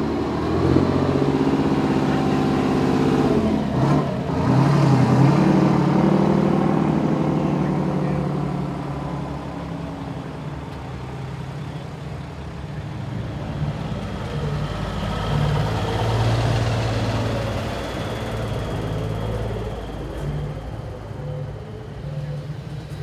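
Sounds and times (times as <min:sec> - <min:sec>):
truck diesel engines: 0:00.0 - 0:23.0.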